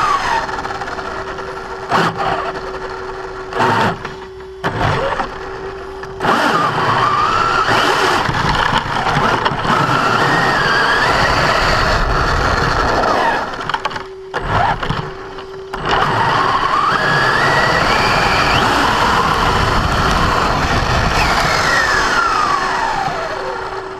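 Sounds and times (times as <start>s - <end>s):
electric motor whine: 0.0s - 23.9s
gears grinding: 0.0s - 23.9s.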